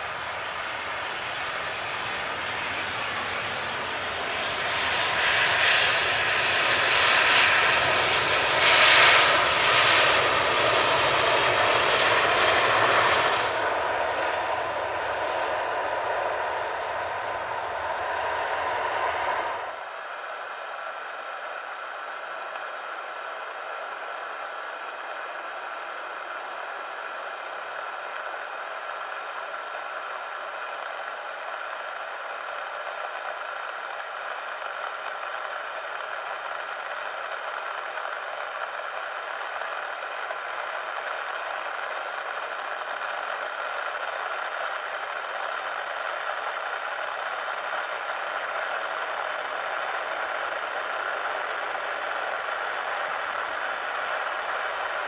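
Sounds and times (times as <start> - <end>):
jet engines whine and rush: 0.0 - 55.0.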